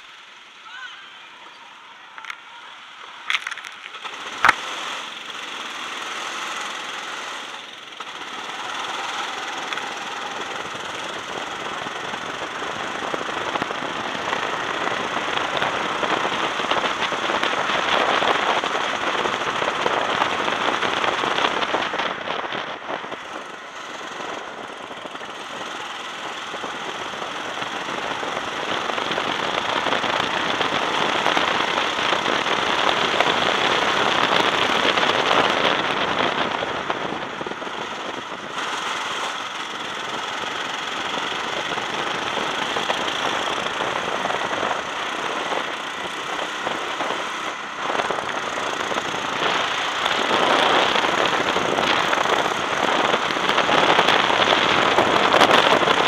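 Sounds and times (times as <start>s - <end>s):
go-kart engine running: 0.0s - 56.0s
wind noise on microphone: 8.2s - 56.0s.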